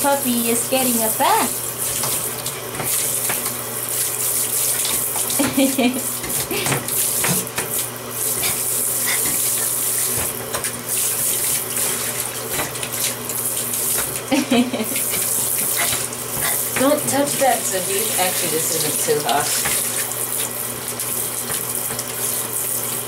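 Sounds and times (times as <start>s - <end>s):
shower water spraying: 0.0s - 23.0s.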